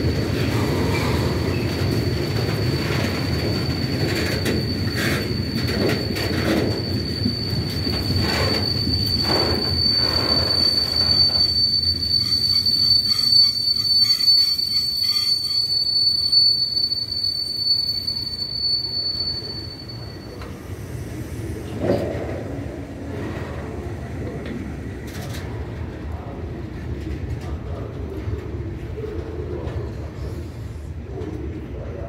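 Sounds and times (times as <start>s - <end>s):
train wheels squealing: 0.0s - 26.8s, 27.4s - 32.0s
low train rumble: 0.0s - 32.0s.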